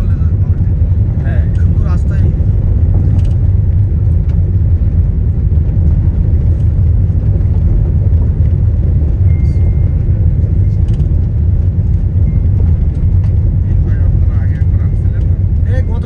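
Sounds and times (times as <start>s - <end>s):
loud low rumble: 0.0s - 16.0s.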